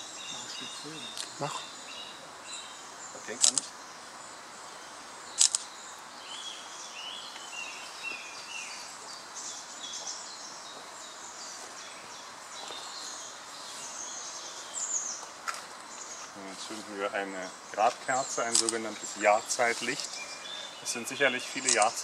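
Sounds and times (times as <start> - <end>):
outdoor background noise: 0.0 - 22.0
songbirds chirping and warbling: 0.0 - 22.0.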